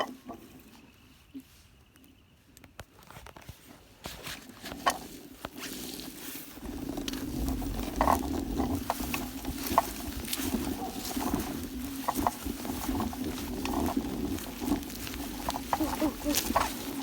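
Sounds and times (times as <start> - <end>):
twigs crackling under wheels: 0.0 - 17.0.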